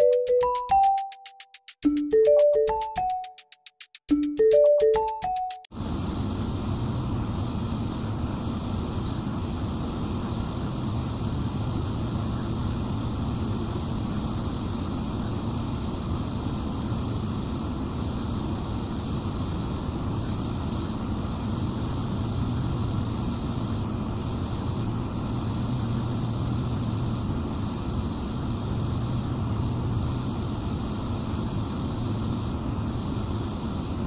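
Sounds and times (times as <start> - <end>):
cooling fans running: 5.7 - 34.0.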